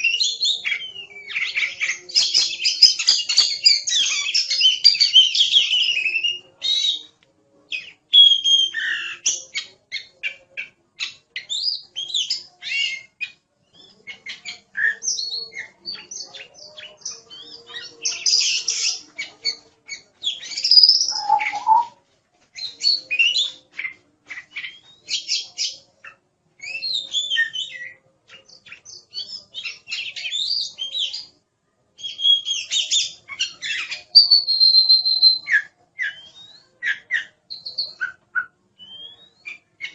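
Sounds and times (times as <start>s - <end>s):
bird singing: 0.0s - 22.0s, 22.6s - 31.3s, 32.0s - 39.9s.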